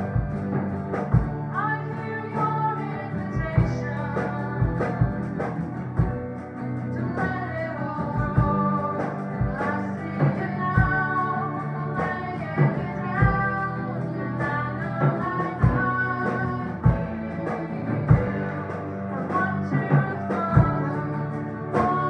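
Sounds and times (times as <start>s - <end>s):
drum kit: 0.0s - 22.0s
electric guitar: 0.0s - 22.0s
person singing: 1.1s - 22.0s.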